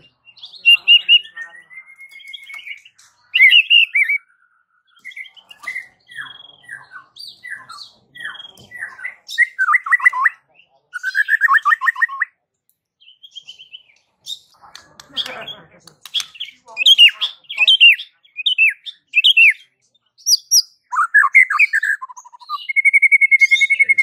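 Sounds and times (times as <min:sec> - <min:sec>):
bird singing clear whistles: 0:00.0 - 0:12.4, 0:15.2 - 0:24.0.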